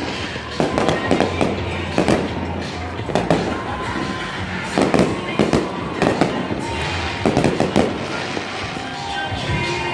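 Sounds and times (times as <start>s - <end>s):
fireworks bangs and pops: 0.0s - 9.9s
fireworks rumble and crackle: 0.0s - 9.9s.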